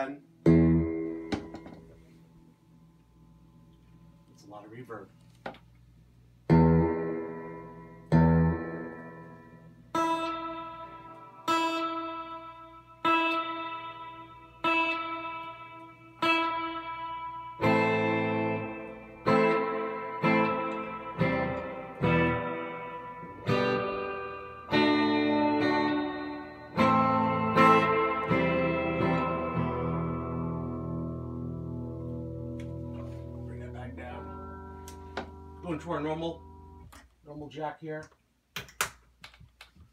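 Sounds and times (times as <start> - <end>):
electric guitar chords with reverb: 0.4 - 3.6, 6.4 - 36.9.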